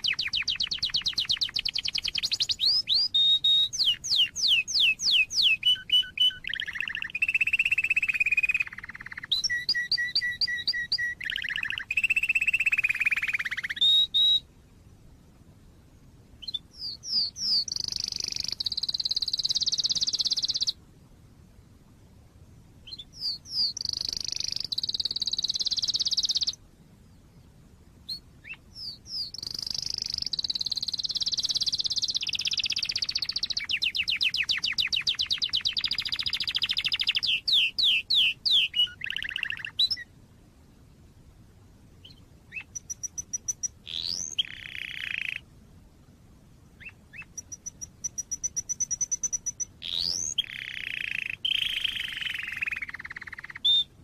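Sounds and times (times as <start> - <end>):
canary singing trills: 0.0 - 14.5, 16.4 - 20.8, 22.8 - 26.6, 28.0 - 40.1, 42.0 - 45.5, 46.8 - 54.0.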